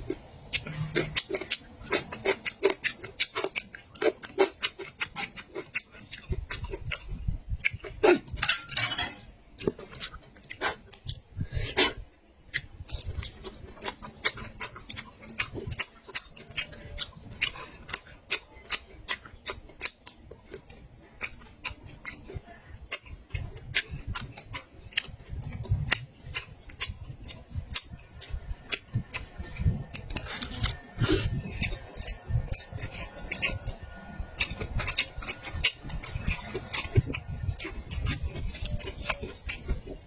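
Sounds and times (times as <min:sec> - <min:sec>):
chewing meat with mouth smacks: 0:00.0 - 0:40.0.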